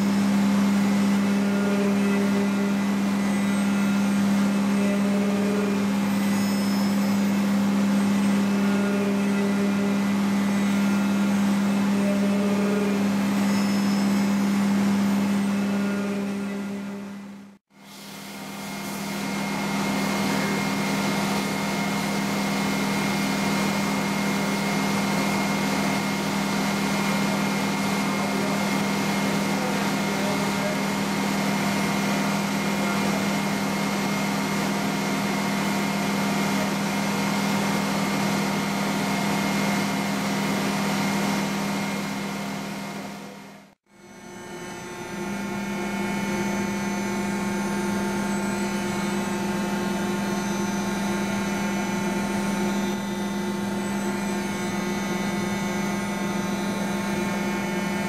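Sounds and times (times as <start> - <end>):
machine hum with whining tones: 0.0 - 58.0.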